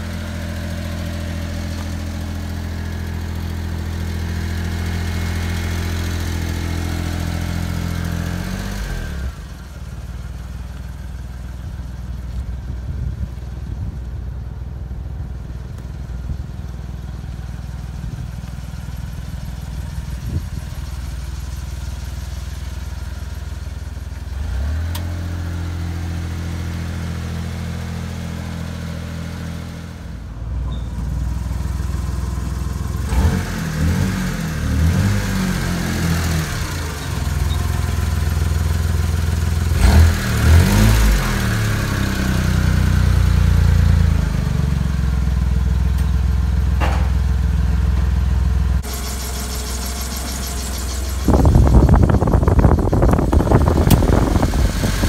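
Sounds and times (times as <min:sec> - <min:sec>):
small truck engine idling: 0:00.0 - 0:33.1, 0:35.6 - 0:39.8, 0:41.5 - 0:54.7.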